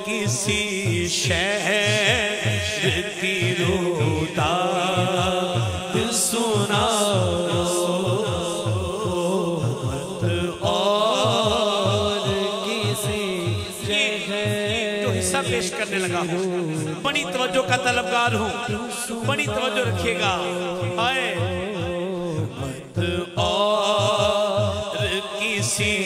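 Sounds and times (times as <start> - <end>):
backing vocal drone: 0.0 - 26.0
man singing melismatic notes: 0.0 - 26.0.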